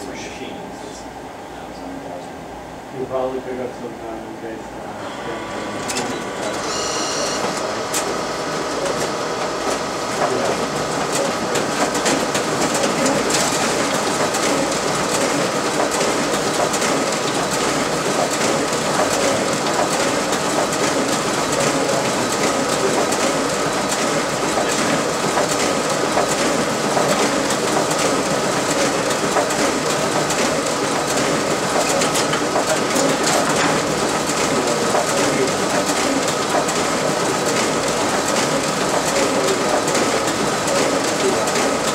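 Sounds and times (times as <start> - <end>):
printer machine whine: 0.0 - 41.9
printer sheets clattering: 5.6 - 41.9.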